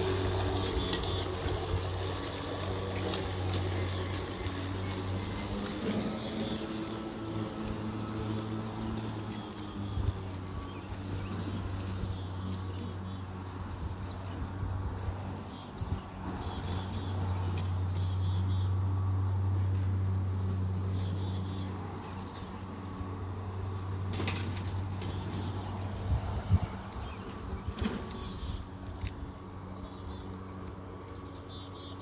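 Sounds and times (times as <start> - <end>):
birds chirping: 0.0 - 32.0
lawn mower running: 0.0 - 32.0.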